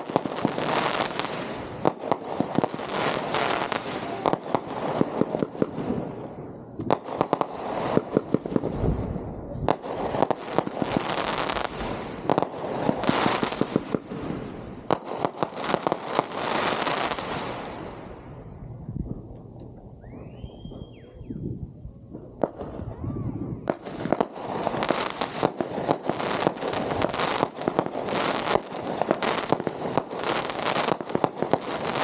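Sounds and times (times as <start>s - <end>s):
fireworks cracking: 0.0s - 18.2s, 22.1s - 32.0s.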